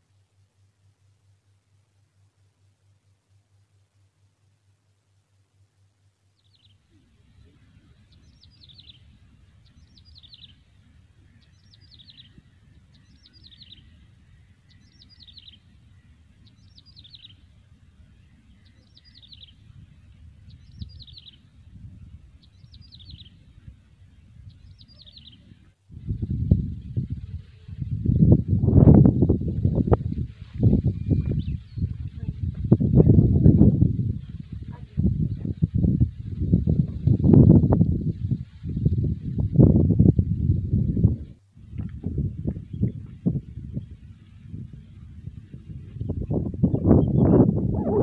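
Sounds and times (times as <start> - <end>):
wind rumble on microphone: 6.5 - 48.0.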